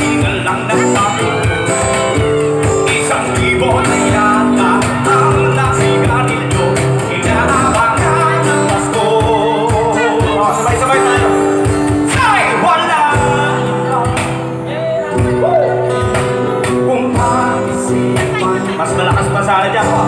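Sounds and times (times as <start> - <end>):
acoustic guitar: 0.0 - 20.0
hand percussion: 0.0 - 20.0
person singing: 0.0 - 20.0.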